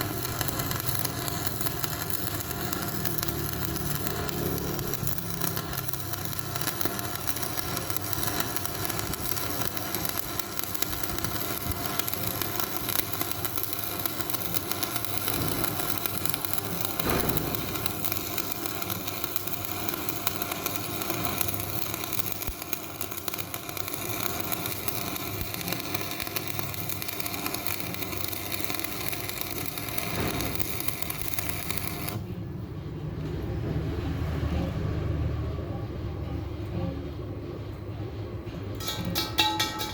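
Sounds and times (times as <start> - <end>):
arc welding crackling hiss: 0.0 - 32.2.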